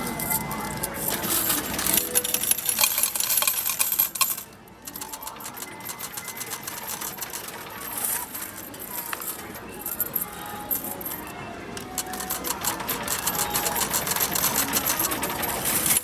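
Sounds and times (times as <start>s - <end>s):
metal medals clattering: 0.0s - 11.3s, 12.0s - 16.0s
music: 0.0s - 16.0s.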